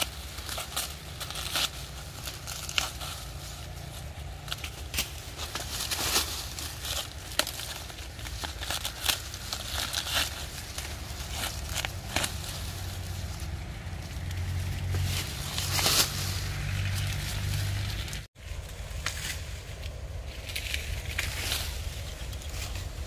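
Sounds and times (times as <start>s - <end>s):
dry leaves rustling and crackling: 0.0s - 23.0s
steady low rumble: 0.0s - 23.0s.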